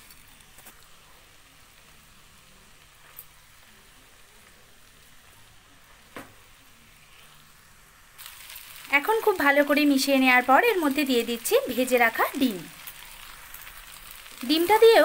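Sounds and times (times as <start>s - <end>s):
noodles sizzling in a pan: 0.0s - 15.0s.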